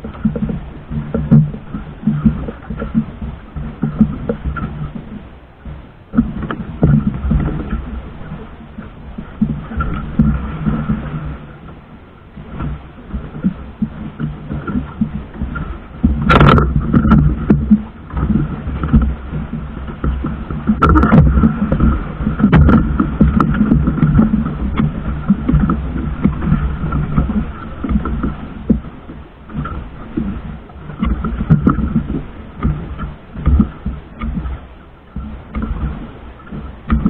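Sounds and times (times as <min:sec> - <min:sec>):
faint steady tone: 0:00.0 - 0:37.0
low rumble: 0:00.0 - 0:37.0
water washing against hull: 0:00.0 - 0:37.0.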